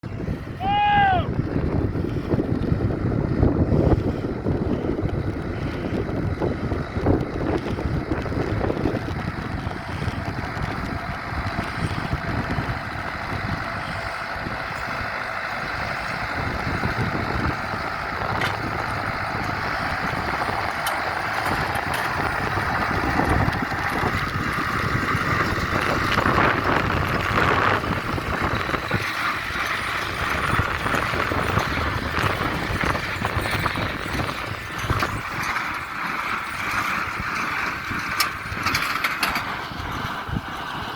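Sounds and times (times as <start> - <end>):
tractor and baler running: 0.0 - 40.9
wind buffeting microphone: 0.0 - 40.9.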